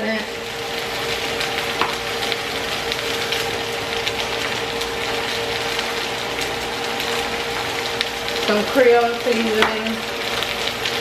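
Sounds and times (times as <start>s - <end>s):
chicken sizzling in a pan: 0.0s - 11.0s
steady hum: 0.0s - 11.0s.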